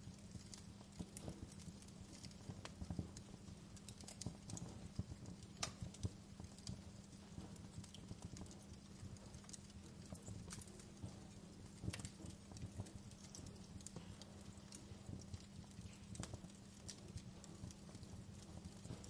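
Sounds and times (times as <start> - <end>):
fire snapping and popping: 0.0 - 19.0
low fire rumble: 0.0 - 19.0.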